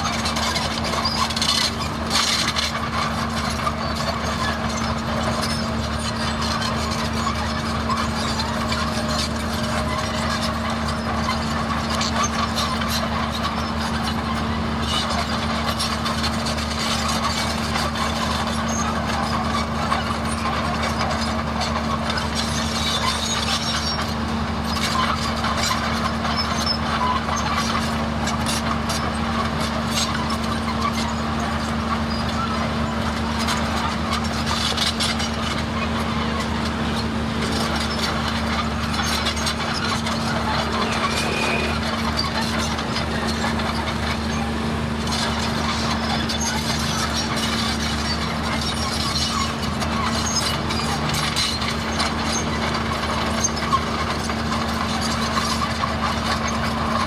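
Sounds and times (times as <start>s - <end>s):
bulldozer diesel engine running: 0.0s - 57.0s
track clatter: 0.0s - 57.0s.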